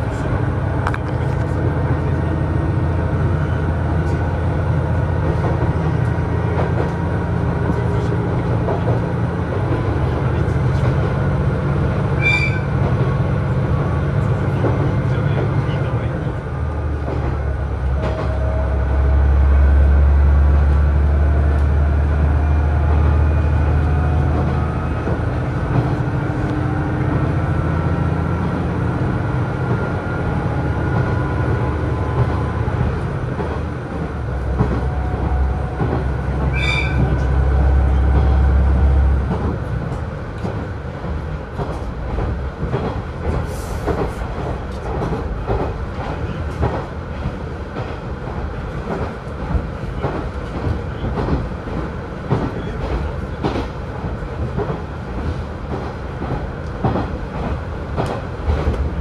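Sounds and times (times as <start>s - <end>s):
deep diesel engine drone: 0.0s - 12.2s, 12.8s - 46.7s, 57.6s - 59.0s
rail rumble: 0.0s - 59.0s.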